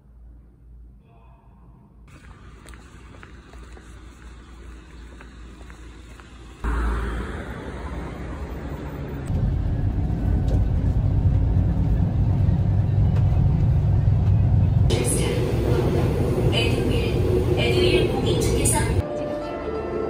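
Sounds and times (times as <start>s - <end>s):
bus engine low rumble: 2.1s - 19.0s
traffic noise: 2.1s - 19.0s.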